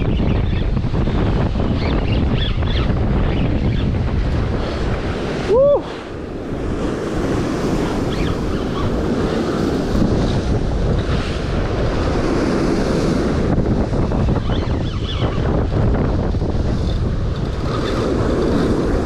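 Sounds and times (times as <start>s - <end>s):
wind buffeting microphone: 0.0s - 19.0s
sea washing against rocks: 2.9s - 19.0s.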